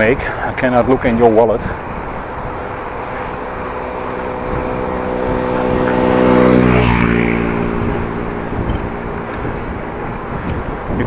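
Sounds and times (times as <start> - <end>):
road and wind noise: 0.0 - 11.0
vehicle engine passing by: 0.1 - 10.9.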